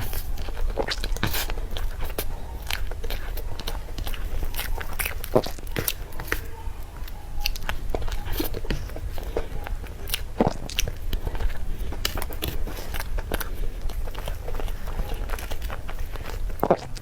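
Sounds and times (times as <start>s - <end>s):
person chewing: 0.0s - 17.0s
steady low hum: 0.0s - 17.0s
wet mouth clicks: 0.0s - 17.0s.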